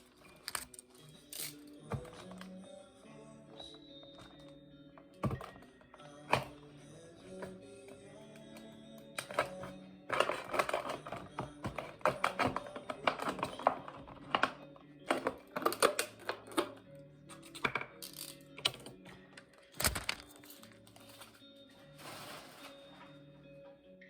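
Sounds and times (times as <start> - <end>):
quiet background music: 0.0 - 24.0.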